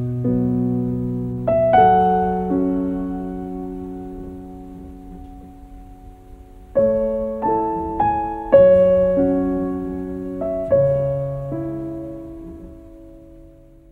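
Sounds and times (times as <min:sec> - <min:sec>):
slow gentle piano music: 0:00.0 - 0:13.9.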